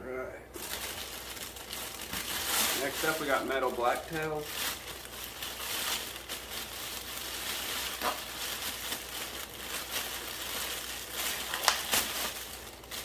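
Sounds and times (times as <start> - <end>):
plastic bags rustling and crinkling: 0.5 - 13.0.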